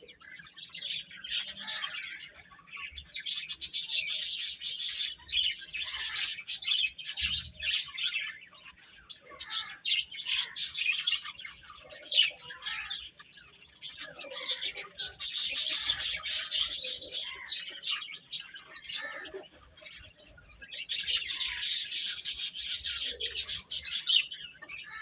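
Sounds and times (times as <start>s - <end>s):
baby chicks chirping: 0.0s - 25.0s.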